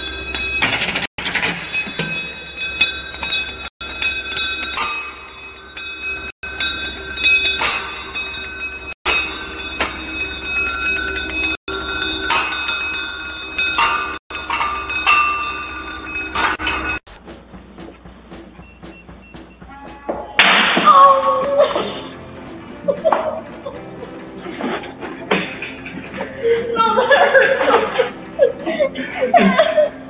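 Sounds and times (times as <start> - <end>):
metal ringing high tones: 0.0 - 30.0
ring rolling in metal channel: 0.0 - 30.0
sharp metal clinks: 0.0 - 30.0.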